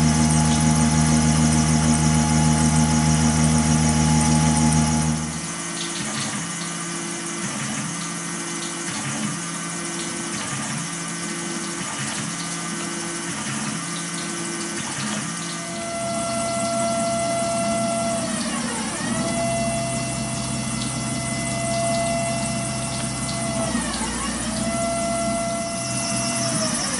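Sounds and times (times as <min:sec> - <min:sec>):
coolant pouring and splashing: 0:00.0 - 0:26.9
faint repeating machine pulse: 0:00.0 - 0:26.9
steady machine whine: 0:00.0 - 0:26.9.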